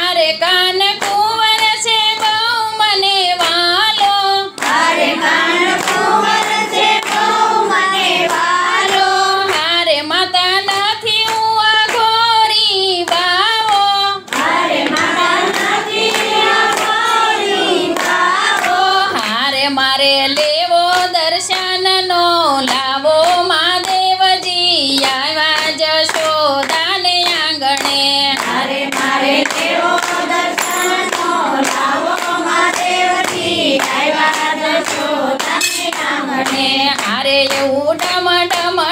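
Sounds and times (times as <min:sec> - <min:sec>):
group singing devotional song: 0:00.0 - 0:38.9
hand clapping: 0:00.0 - 0:38.9.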